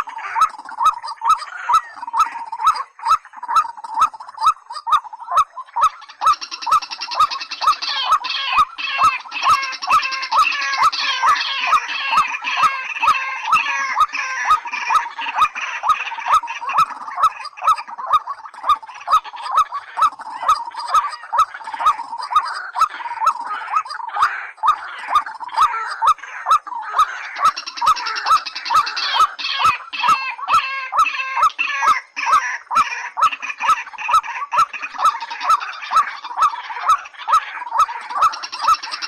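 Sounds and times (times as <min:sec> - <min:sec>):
waterhen calls with clicks: 0:00.0 - 0:39.0.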